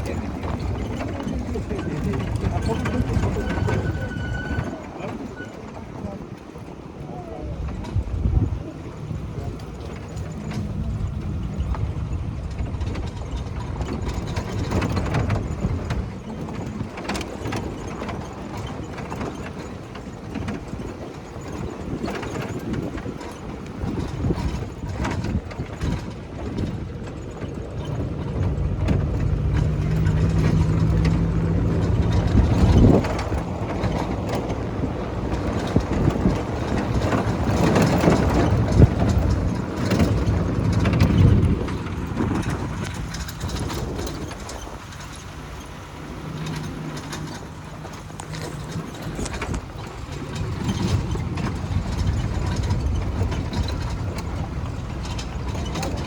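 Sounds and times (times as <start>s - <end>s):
knocks and rattles: 0.0s - 6.7s, 7.6s - 56.0s
vehicle engine running: 0.0s - 56.0s.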